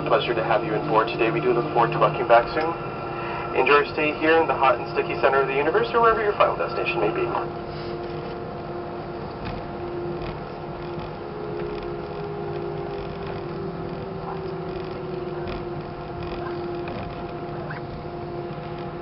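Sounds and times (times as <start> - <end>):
aircraft cabin engine hum: 0.0 - 19.0.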